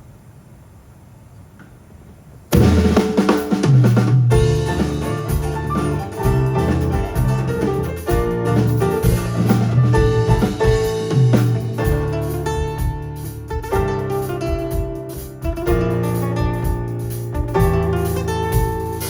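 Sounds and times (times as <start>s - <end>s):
bass notes: 2.5s - 19.0s
drum kit: 2.5s - 19.0s
live band playing: 2.6s - 19.0s
guitar: 3.4s - 19.0s.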